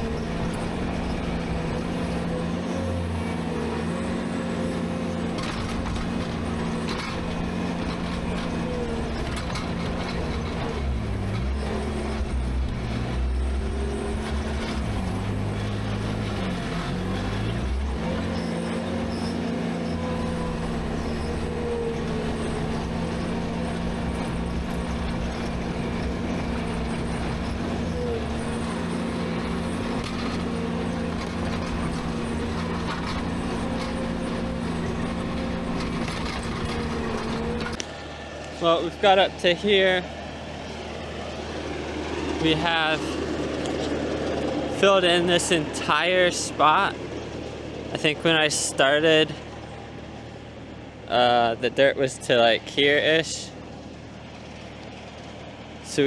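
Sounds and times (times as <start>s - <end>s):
diesel engine at high throttle: 0.0s - 56.0s.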